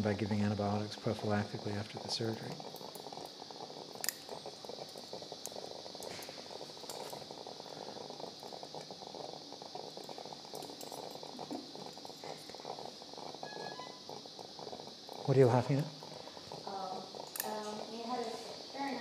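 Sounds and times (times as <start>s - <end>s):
room noise: 0.0s - 19.0s.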